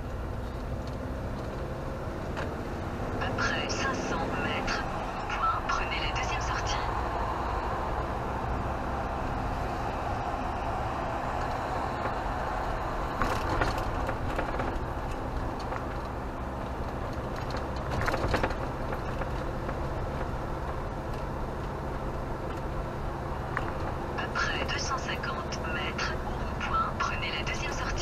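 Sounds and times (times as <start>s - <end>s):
engine and road noise in cab: 0.0s - 28.0s.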